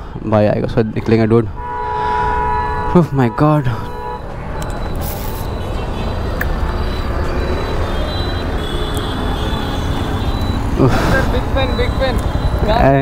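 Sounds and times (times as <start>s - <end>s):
roadside traffic rumble: 0.0s - 13.0s.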